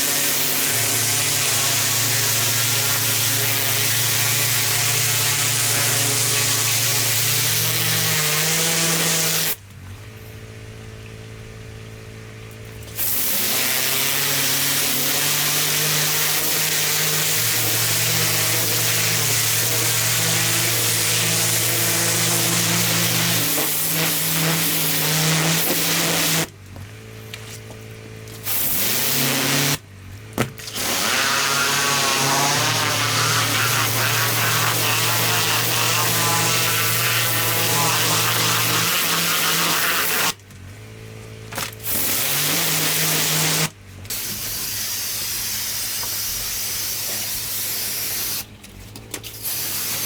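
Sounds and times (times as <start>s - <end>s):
pressure washer spraying: 0.0s - 9.6s, 12.9s - 26.5s, 28.3s - 29.8s, 30.4s - 40.4s, 41.7s - 48.5s, 49.3s - 50.0s
engine and pump hum: 8.8s - 50.0s.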